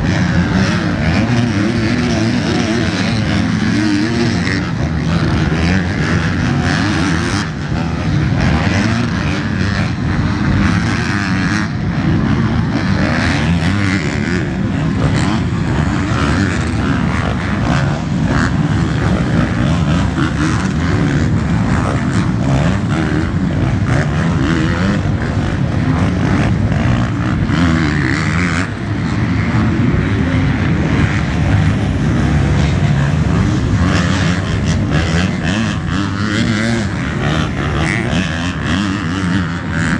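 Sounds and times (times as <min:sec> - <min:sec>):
motocross bike engines running: 0:00.0 - 0:39.9.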